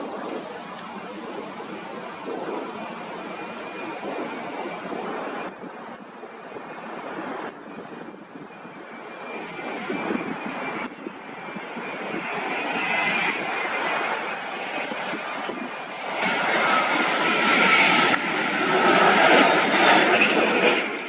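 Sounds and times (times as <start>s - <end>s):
airliner engines: 0.0s - 21.0s
faint high whine: 0.0s - 21.0s.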